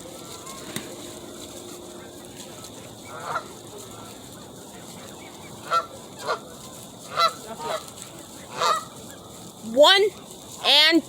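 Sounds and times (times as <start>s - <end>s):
geese honking: 0.0s - 9.6s
steady background hiss: 0.0s - 11.0s.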